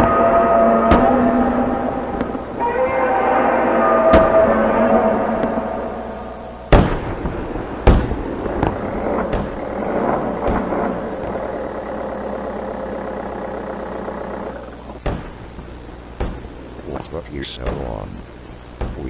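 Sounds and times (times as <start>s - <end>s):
sharp blasts: 0.0s - 15.5s
pitched drone: 0.0s - 18.3s
steady rumbling din: 0.0s - 19.0s.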